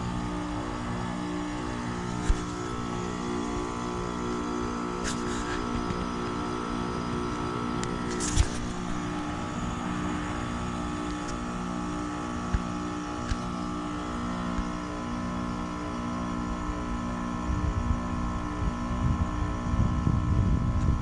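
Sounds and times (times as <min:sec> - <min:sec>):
heat pump compressor hum: 0:00.0 - 0:21.0.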